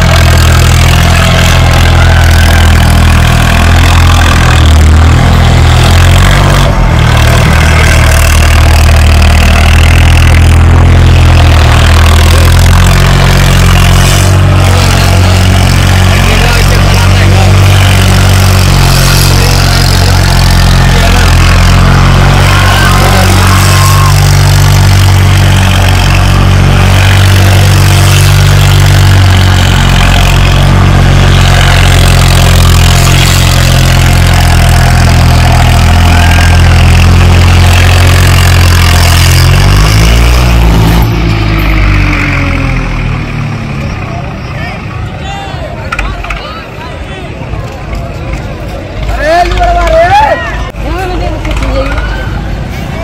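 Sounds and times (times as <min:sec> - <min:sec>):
diesel tractor engine revving: 0:00.0 - 0:53.0.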